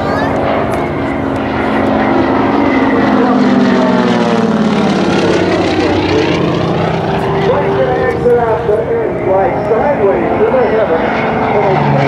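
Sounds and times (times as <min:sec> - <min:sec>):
propeller plane engine passing: 0:00.0 - 0:12.0.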